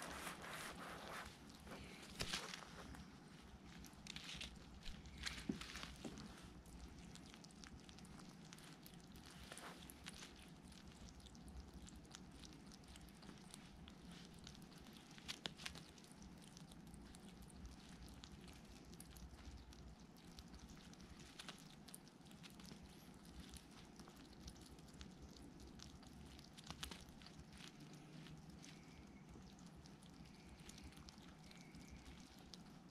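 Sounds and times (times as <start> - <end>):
hedgehog chewing food: 0.0 - 32.9
low steady hum: 0.0 - 32.9.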